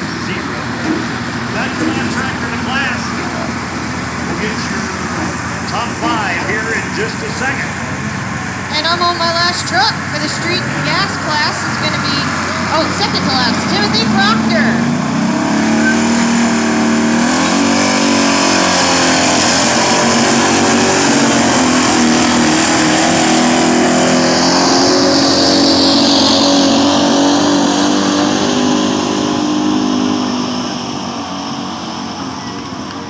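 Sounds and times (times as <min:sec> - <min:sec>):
truck engine at high revs: 0:00.0 - 0:33.0.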